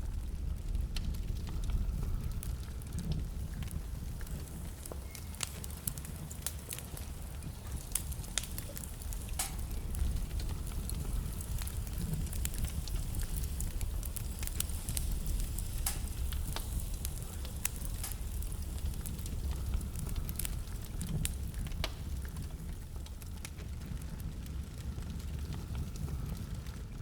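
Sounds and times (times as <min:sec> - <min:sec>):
low rumble of fire: 0:00.0 - 0:27.0
wood crackling and popping: 0:00.0 - 0:27.0.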